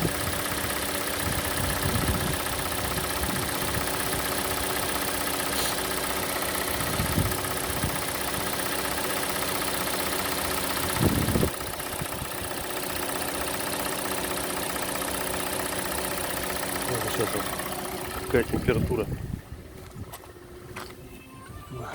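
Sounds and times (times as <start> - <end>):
car engine idling: 0.0 - 21.9
engine tapping: 0.0 - 21.9.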